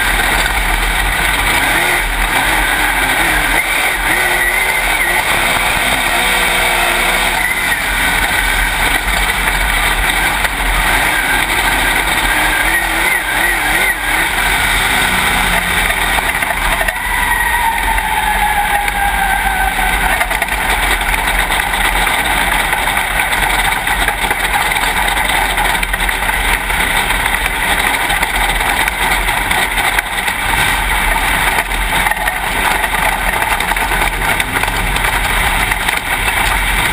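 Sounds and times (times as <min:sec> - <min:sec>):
race car engine: 0:00.0 - 0:36.9.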